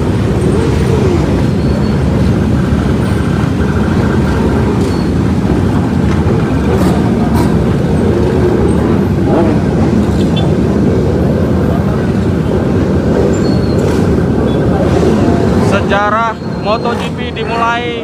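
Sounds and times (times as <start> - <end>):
motorcycle convoy engines droning: 0.0 - 18.0.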